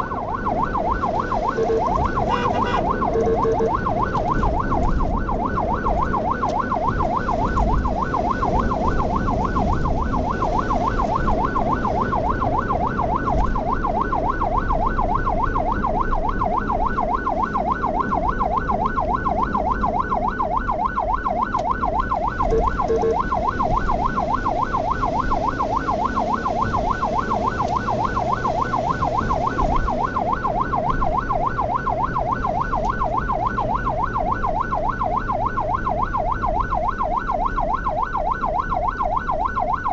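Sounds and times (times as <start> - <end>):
ambulance siren yelping: 0.0 - 39.9
road and engine noise: 0.0 - 39.9.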